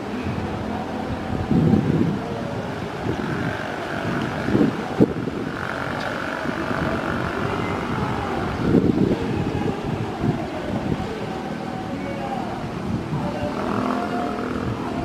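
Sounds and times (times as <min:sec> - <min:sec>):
distant propeller plane drone: 0:00.0 - 0:15.0
wind buffeting microphone: 0:00.0 - 0:15.0.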